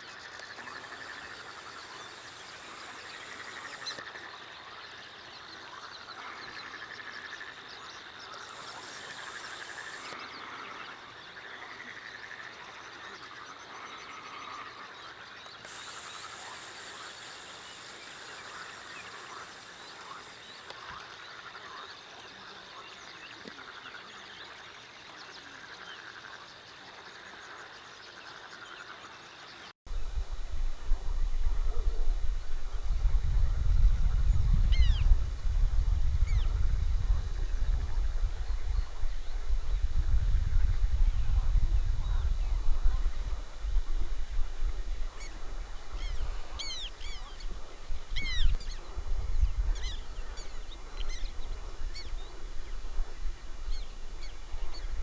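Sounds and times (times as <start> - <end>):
frogs croaking: 0.0 - 29.6, 33.4 - 55.0.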